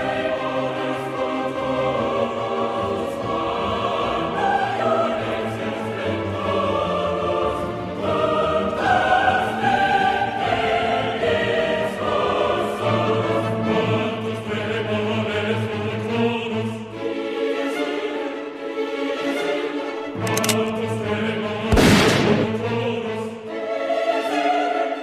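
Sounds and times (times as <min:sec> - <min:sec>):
choir singing held chords: 0:00.0 - 0:25.0.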